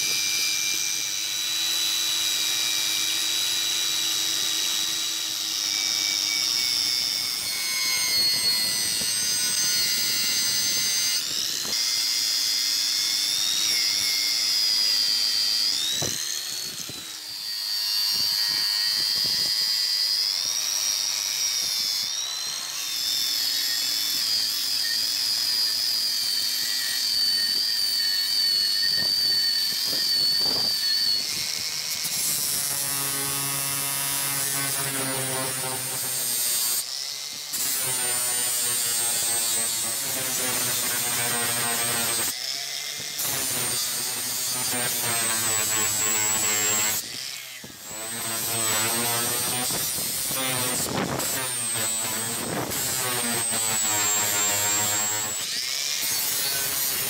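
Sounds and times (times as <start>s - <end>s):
angle grinder grinding metal: 0.0s - 57.0s.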